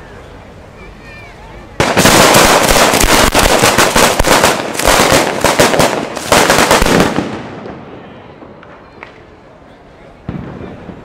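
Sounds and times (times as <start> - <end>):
firecrackers cracking and banging: 1.8 - 11.0.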